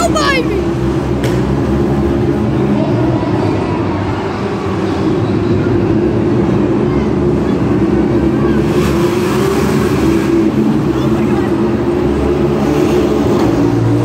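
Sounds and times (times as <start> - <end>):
racing engines droning: 0.0 - 14.0.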